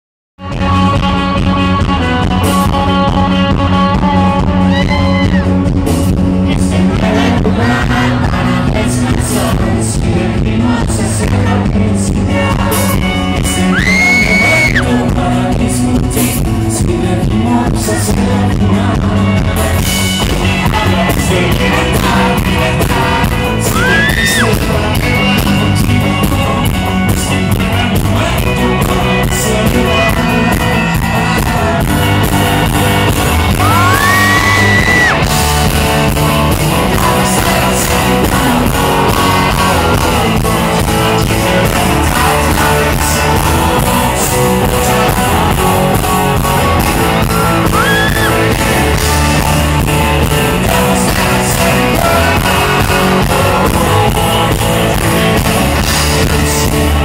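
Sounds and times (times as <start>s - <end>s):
live rock band playing: 0.4s - 57.0s
man singing lead: 0.4s - 57.0s.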